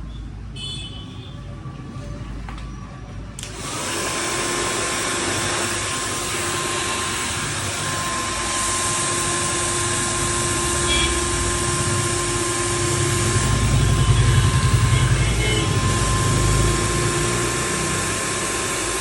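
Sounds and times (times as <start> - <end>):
hair dryer running: 3.4 - 19.0.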